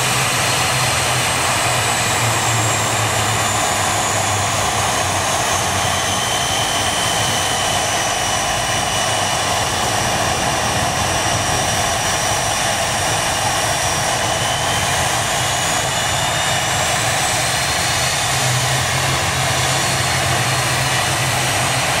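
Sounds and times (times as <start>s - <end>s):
airliner engines whining: 0.0s - 22.0s
low hum: 0.0s - 22.0s.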